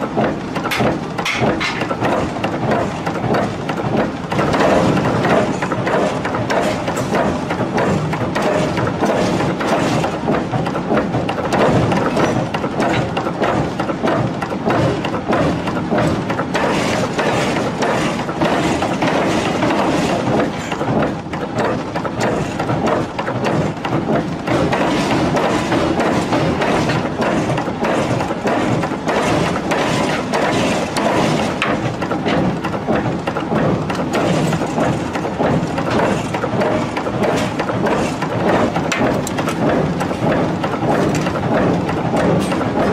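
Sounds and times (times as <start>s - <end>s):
power hammer striking steel: 0.0s - 10.2s, 11.5s - 20.8s, 24.5s - 42.9s
workshop noise: 0.0s - 42.9s.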